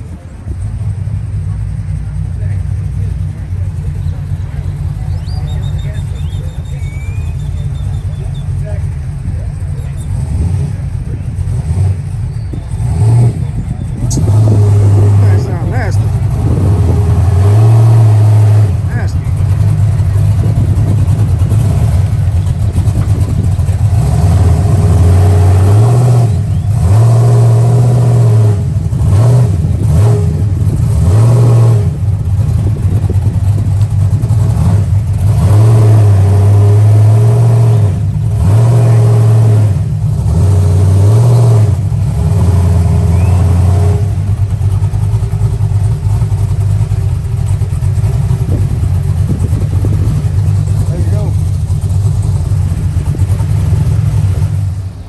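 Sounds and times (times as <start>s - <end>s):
car engine idling: 0.0s - 55.0s
car engine revving: 0.0s - 55.0s.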